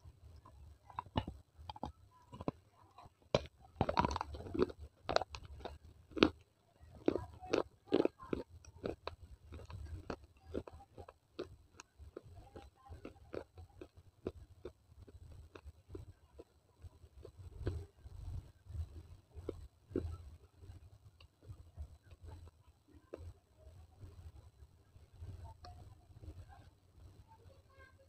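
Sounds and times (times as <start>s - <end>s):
clay pot being chewed: 0.2s - 24.5s.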